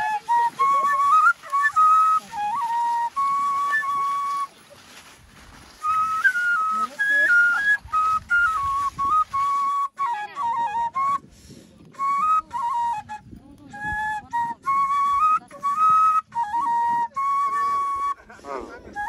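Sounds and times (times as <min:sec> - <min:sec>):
slow flute melody: 0:00.0 - 0:19.0.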